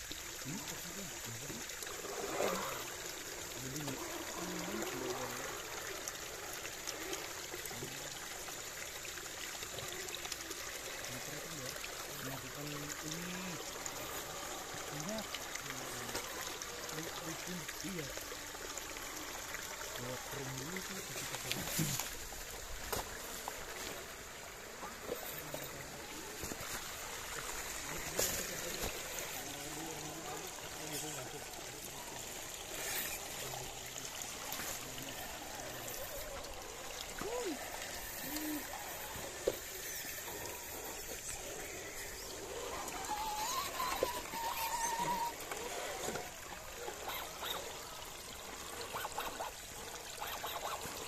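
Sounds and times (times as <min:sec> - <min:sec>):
creek water trickling: 0:00.0 - 0:51.0.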